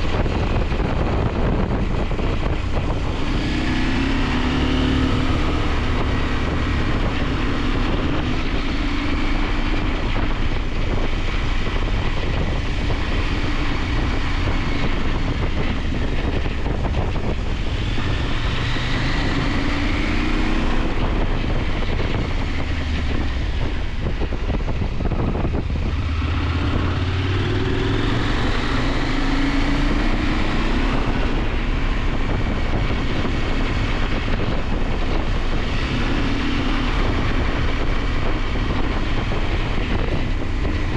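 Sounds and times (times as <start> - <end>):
motorcycle engine accelerating: 0.0 - 40.9
wind noise: 0.0 - 40.9.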